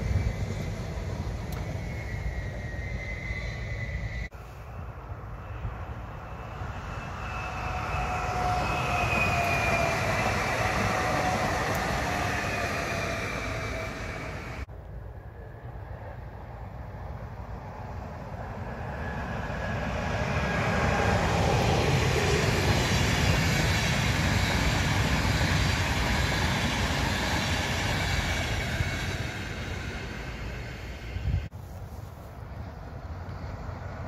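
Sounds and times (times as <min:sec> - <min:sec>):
train wheels rumbling on rails: 0:00.0 - 0:14.7, 0:17.3 - 0:34.0.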